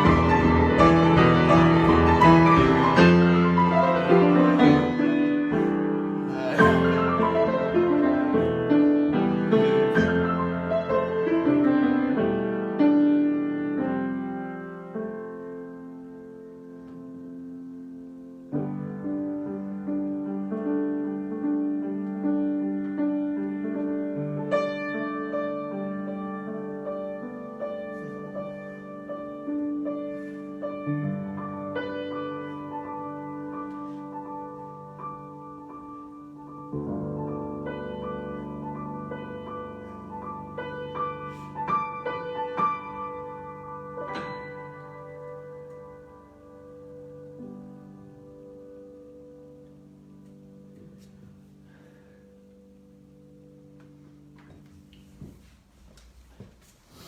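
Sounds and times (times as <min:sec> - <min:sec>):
solo piano improvisation: 0:00.0 - 0:55.7.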